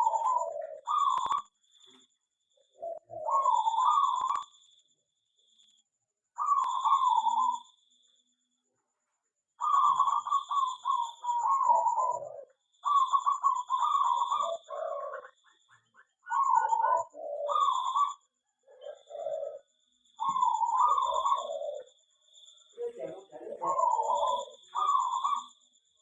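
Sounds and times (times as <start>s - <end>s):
doves cooing: 0.0s - 4.6s, 6.4s - 7.7s, 9.6s - 25.6s.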